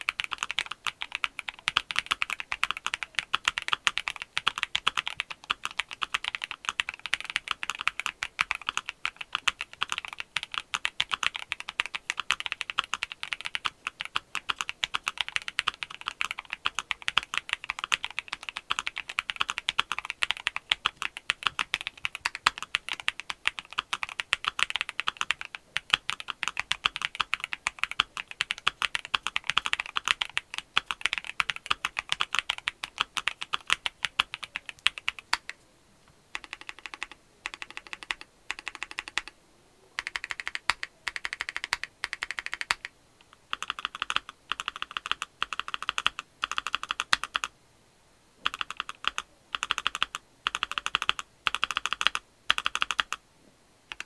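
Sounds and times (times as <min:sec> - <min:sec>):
mechanical keyboard typing: 0:00.0 - 0:35.6, 0:36.3 - 0:39.3, 0:40.0 - 0:47.5, 0:48.4 - 0:53.2.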